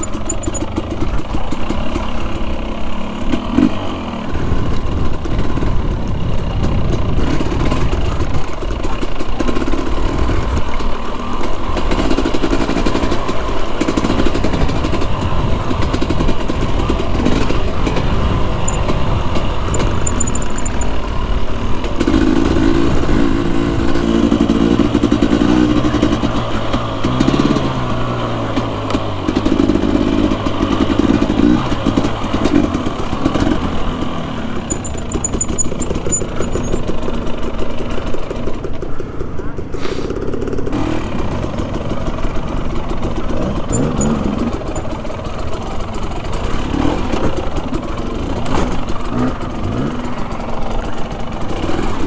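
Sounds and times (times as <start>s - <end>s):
dirt bike engine revving: 0.0s - 6.0s, 6.6s - 37.6s, 39.9s - 52.0s.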